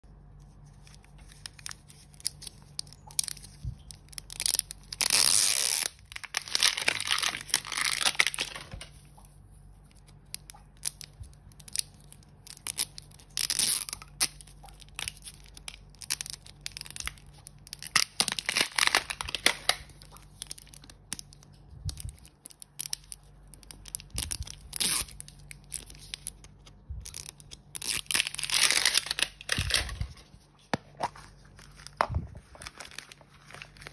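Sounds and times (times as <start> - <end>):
wrapping tearing and crinkling: 0.3 - 33.9.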